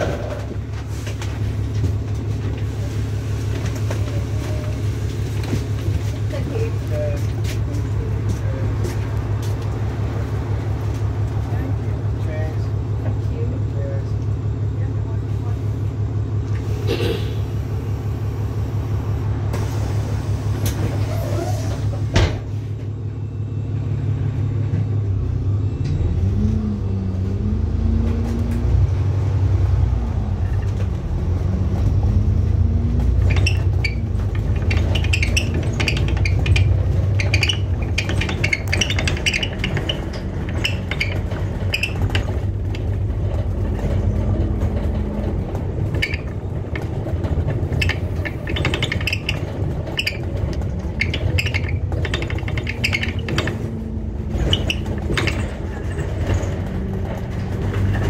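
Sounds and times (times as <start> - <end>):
bus engine idling: 0.0 - 58.0
bus engine whining under load: 0.0 - 58.0.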